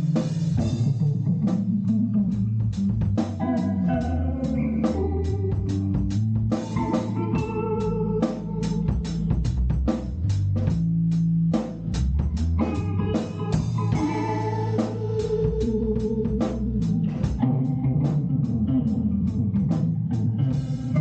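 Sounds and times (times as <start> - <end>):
organ sustained chords: 0.0 - 9.6, 12.4 - 21.0
bass: 0.0 - 21.0
drum kit beat: 0.0 - 21.0.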